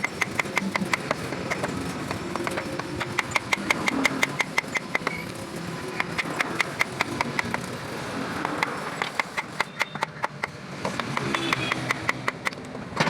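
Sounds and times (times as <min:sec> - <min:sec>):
fast sharp ringing taps: 0:00.0 - 0:05.3, 0:06.0 - 0:07.7, 0:08.4 - 0:12.6.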